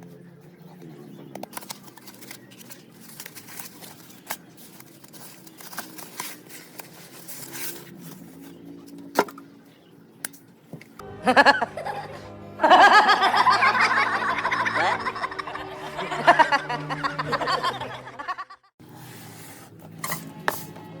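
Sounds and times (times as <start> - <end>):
music: 0.8 - 21.0.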